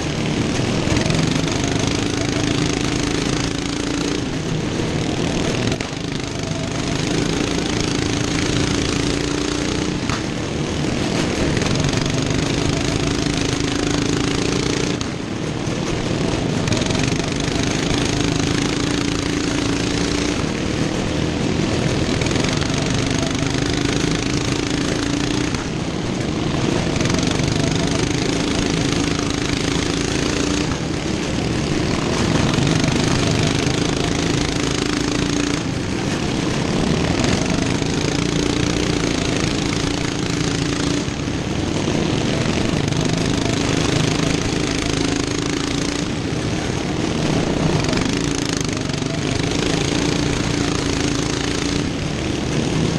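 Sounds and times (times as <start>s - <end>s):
racing lawn mower engines: 0.0s - 52.9s.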